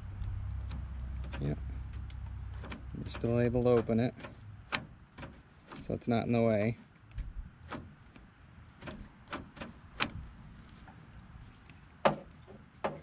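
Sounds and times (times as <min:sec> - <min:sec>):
clicks and knocks of car parts: 0:00.6 - 0:06.0, 0:06.8 - 0:11.0, 0:11.7 - 0:13.0.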